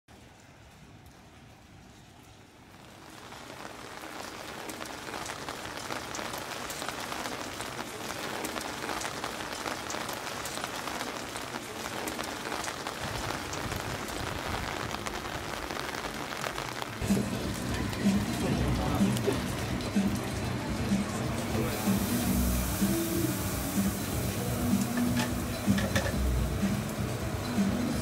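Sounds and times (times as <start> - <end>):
rain on leaves and pavement: 0.1 - 28.0.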